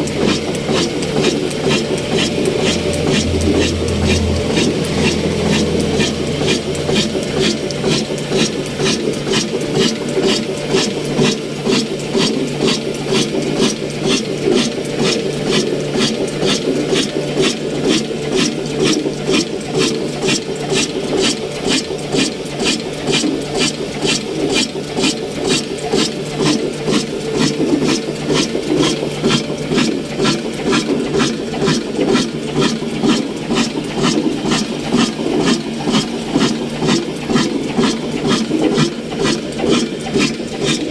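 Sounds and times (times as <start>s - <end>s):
stationary diesel engine running: 0.0s - 40.9s.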